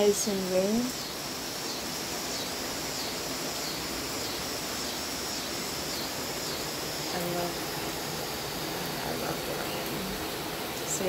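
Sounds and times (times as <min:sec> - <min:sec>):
cicadas droning: 0:00.0 - 0:11.0
rain falling: 0:00.0 - 0:11.0.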